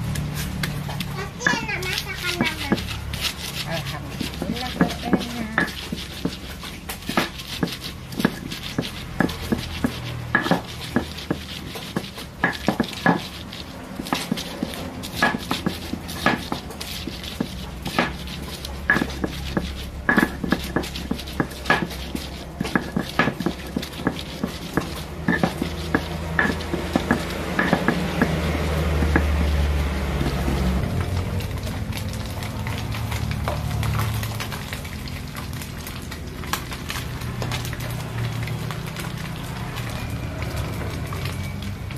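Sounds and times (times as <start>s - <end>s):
stone pestle scraping grind: 0.0s - 41.9s
stone pestle clacking on mortar: 0.1s - 34.9s.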